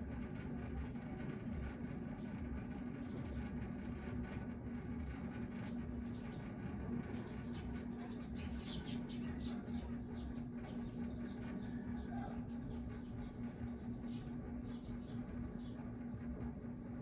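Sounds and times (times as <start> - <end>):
mechanical hum with low rumble: 0.0 - 17.0.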